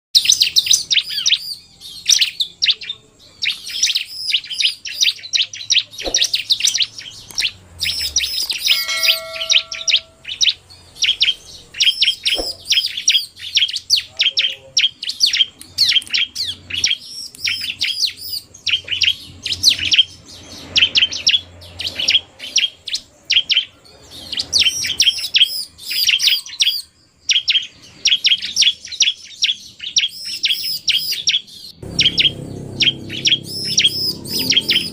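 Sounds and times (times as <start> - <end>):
birds chirping rapidly: 0.2 - 34.9.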